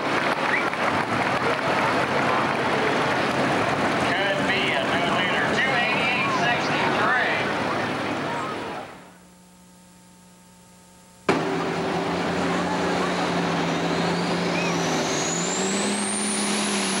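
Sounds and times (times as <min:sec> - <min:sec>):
diesel engine running under load: 0:00.0 - 0:09.1, 0:11.3 - 0:17.0
low hum: 0:00.0 - 0:17.0
turbocharger whine: 0:00.0 - 0:17.0.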